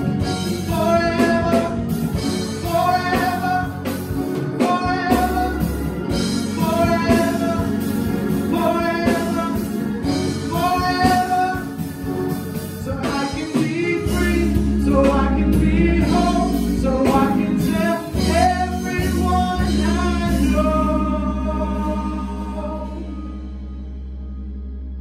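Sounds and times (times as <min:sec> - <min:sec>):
gospel singing: 0:00.0 - 0:24.4
steady bass: 0:00.0 - 0:25.0.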